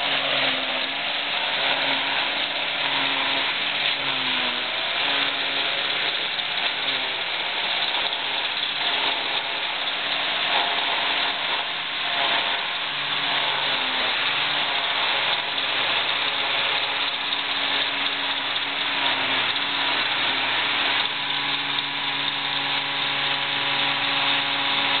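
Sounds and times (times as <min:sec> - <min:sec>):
tractor and forage harvester droning: 0:00.0 - 0:25.0.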